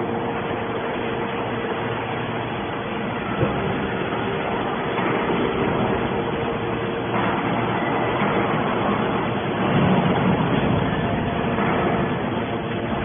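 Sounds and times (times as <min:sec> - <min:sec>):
hydraulic baler compressing scrap metal: 0:02.0 - 0:13.0.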